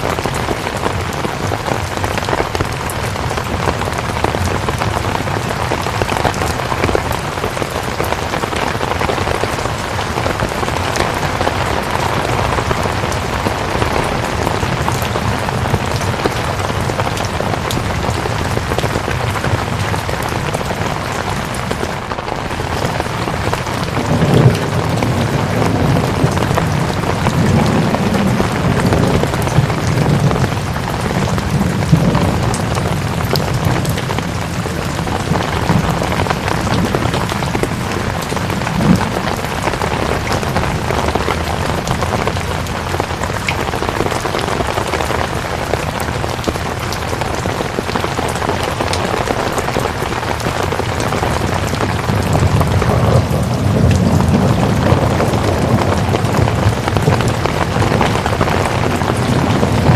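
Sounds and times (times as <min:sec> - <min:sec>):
low thunder rumbles: 0:00.0 - 0:59.9
steady rain falling: 0:00.0 - 0:59.9.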